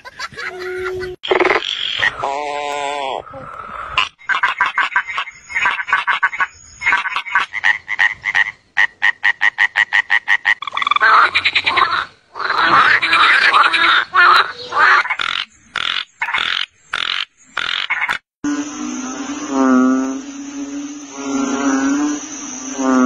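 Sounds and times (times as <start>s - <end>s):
frogs croaking: 1.2s - 23.0s.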